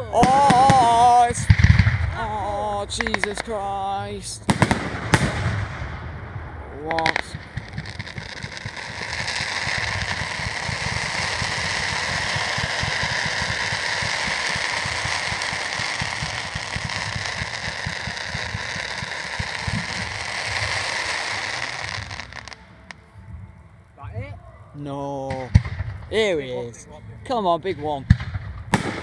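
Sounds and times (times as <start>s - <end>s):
fireworks hissing and crackling: 0.0s - 5.8s, 6.6s - 23.1s, 24.8s - 29.0s.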